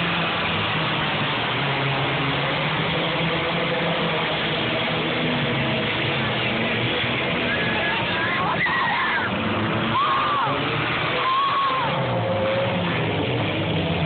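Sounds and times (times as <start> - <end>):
car engines running hard: 0.0 - 14.0.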